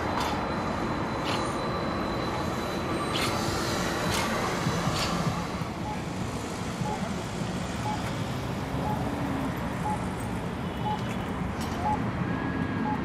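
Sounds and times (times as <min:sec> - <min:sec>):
low traffic rumble: 0:00.0 - 0:13.0
trolley bus passing: 0:00.0 - 0:13.0.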